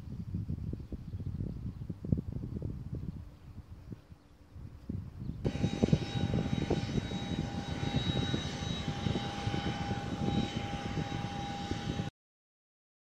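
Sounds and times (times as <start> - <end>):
aircraft engine running: 0.1 - 12.1.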